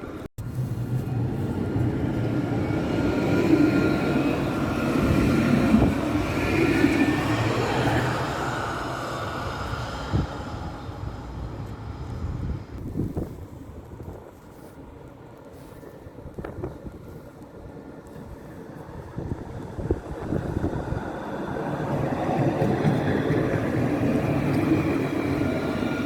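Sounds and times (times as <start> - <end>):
tram passing with whine: 0.0 - 26.0.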